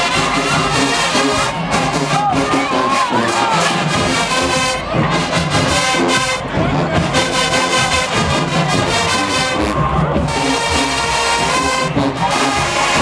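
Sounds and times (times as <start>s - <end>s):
drums: 0.0s - 13.0s
marching band brass: 0.0s - 13.0s.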